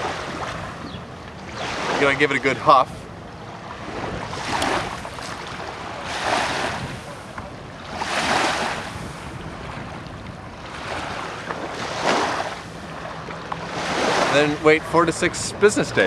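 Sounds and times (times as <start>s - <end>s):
wind rumble on microphone: 0.0s - 2.2s, 3.0s - 16.0s
small waves lapping on shore: 0.0s - 16.0s.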